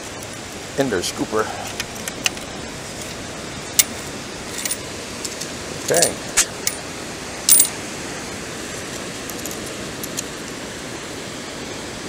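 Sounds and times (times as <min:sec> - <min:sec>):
rushing outdoor background hiss: 0:00.0 - 0:12.0.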